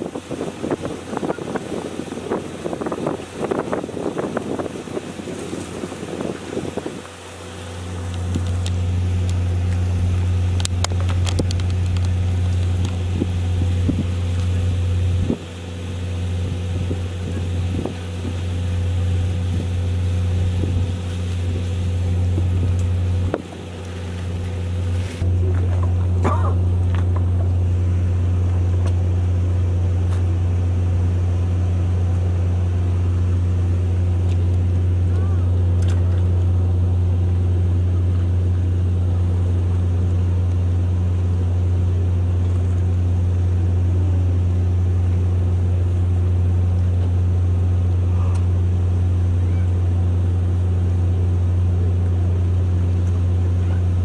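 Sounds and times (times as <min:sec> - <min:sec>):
wind buffeting microphone: 0:00.0 - 0:47.0
low engine hum: 0:00.0 - 0:54.0.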